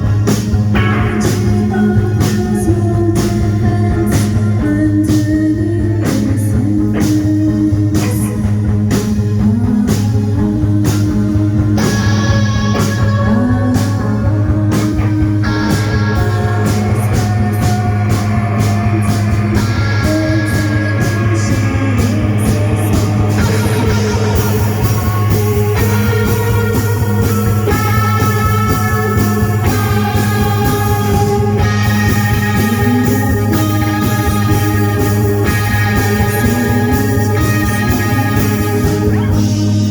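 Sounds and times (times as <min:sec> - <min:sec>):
electric guitar lines: 0:00.0 - 0:39.9
steady drum beat: 0:00.0 - 0:39.9
held bass note: 0:07.4 - 0:39.9.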